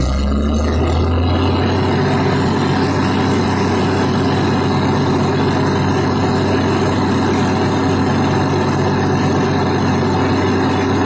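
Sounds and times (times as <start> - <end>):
drilling rig engine humming: 0.0 - 11.0.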